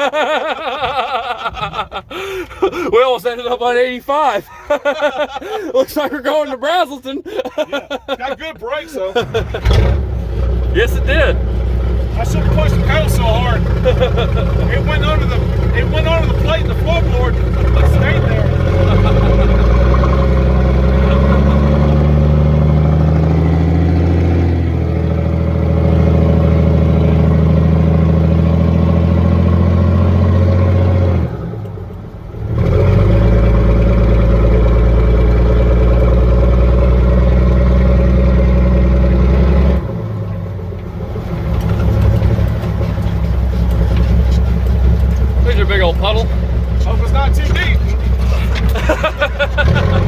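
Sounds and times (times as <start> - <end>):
diesel truck engine droning: 0.0 - 50.0.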